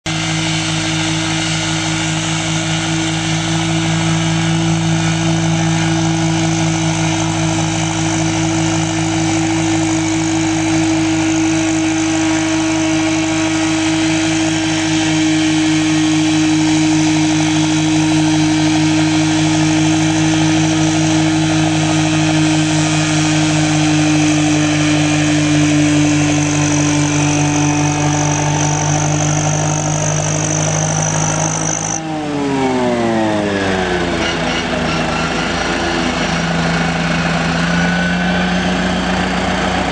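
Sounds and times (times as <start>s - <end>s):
mower drive whine: 0.0s - 39.9s
tractor diesel engine running: 0.0s - 39.9s.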